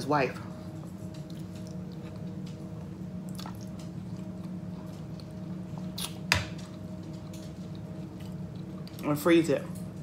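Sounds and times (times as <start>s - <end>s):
person chewing soup wetly: 0.8s - 9.0s.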